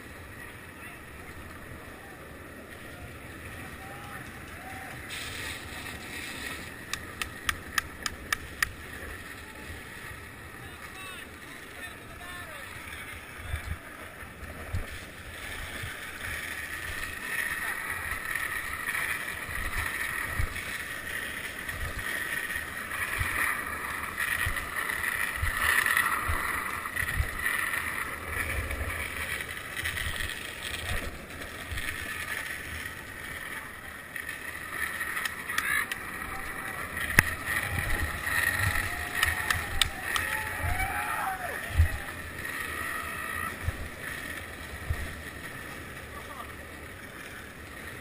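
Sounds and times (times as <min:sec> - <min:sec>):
skateboard wheels rolling on asphalt: 0:00.0 - 0:48.0.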